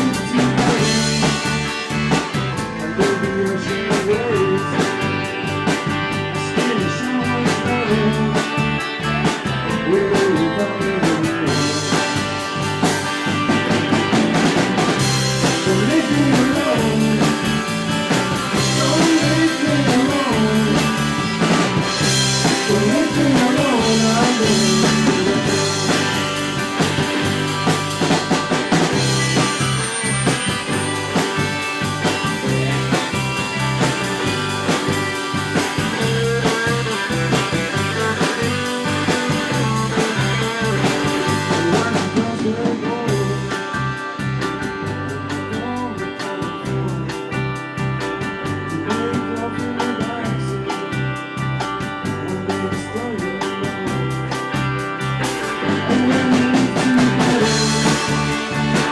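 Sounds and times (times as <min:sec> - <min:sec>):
drum kit beat: 0:00.0 - 0:58.9
electric guitar with bending notes: 0:00.0 - 0:58.9.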